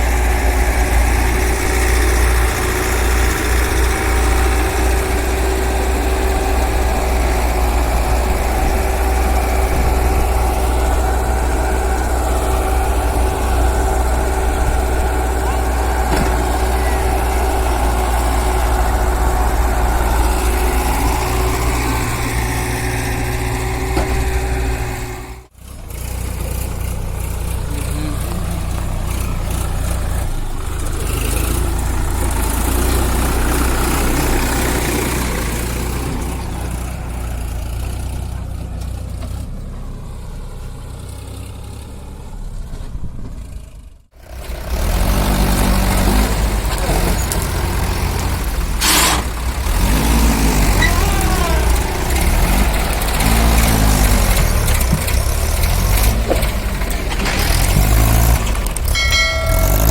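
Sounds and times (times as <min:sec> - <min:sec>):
diesel machinery engines running: 0:00.0 - 0:59.9.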